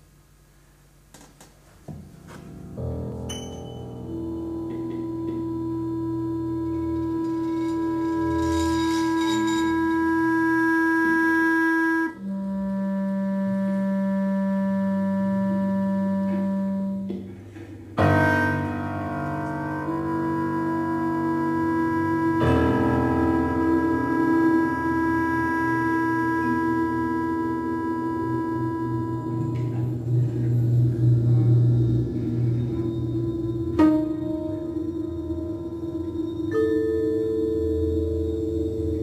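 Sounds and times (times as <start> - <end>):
chamber music held tones: 1.8 - 39.0
loud ringing chord: 2.1 - 11.3, 14.8 - 39.0.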